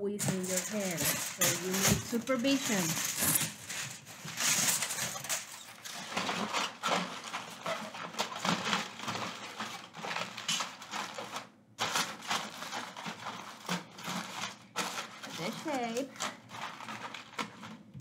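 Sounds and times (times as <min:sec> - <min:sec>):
aluminum foil crinkling: 0:00.0 - 0:18.0.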